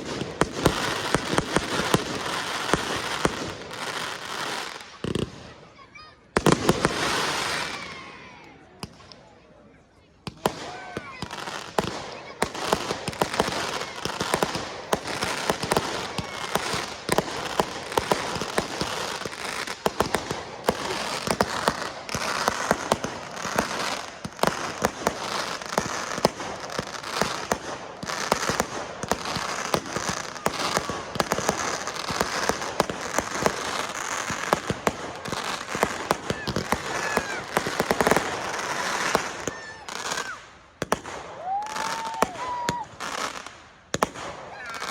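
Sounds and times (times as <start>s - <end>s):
fireworks crackling and banging: 0.0s - 9.3s, 10.2s - 44.9s.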